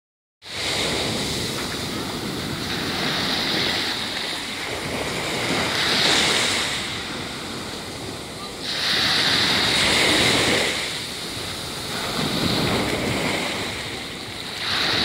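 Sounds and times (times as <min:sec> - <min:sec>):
small waves washing onto sand: 0:00.5 - 0:15.0
wind on microphone: 0:00.5 - 0:15.0.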